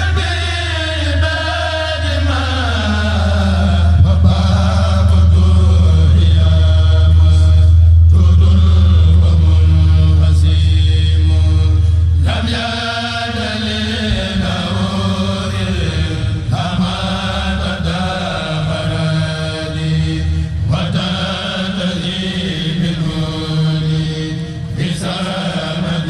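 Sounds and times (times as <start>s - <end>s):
group chanting: 0.0s - 26.0s.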